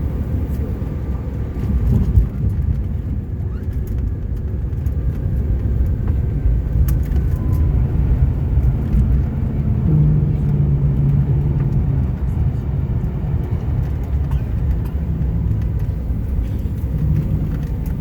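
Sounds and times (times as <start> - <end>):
aircraft cabin engine rumble: 0.0 - 18.0
light ticks and rattles: 0.4 - 18.0.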